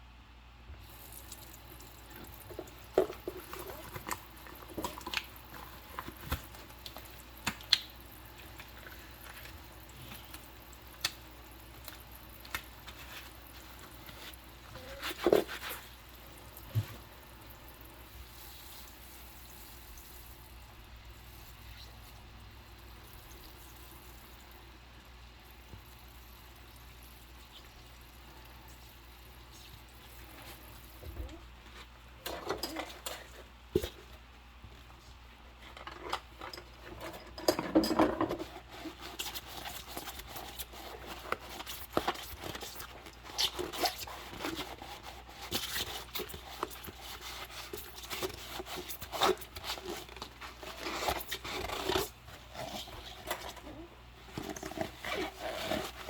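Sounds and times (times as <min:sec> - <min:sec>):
hands washing dishes: 0:00.8 - 0:20.3, 0:26.6 - 0:56.0.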